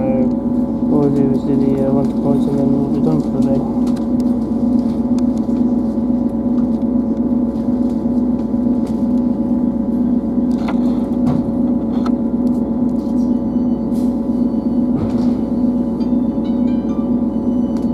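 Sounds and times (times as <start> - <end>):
diesel engine low hum: 0.0 - 17.9.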